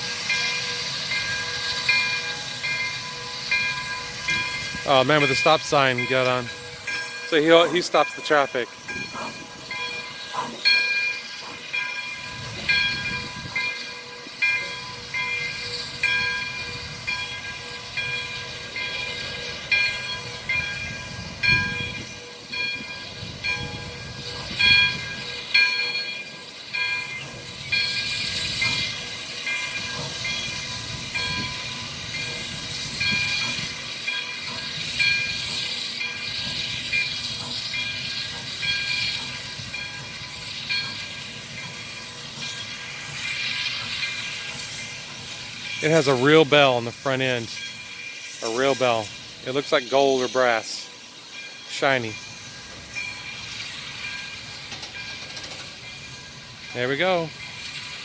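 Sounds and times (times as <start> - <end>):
hissing steam: 0.0 - 58.0
locomotive bell ringing: 0.0 - 58.0
low train rumble: 0.0 - 58.0.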